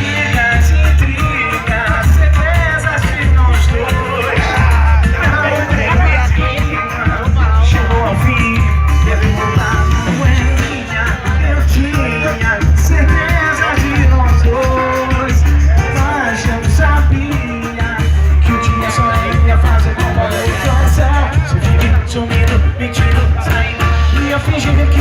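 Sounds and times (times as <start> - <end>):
live band playing: 0.0 - 25.0
low bass beat: 0.0 - 25.0
person singing: 0.0 - 25.0.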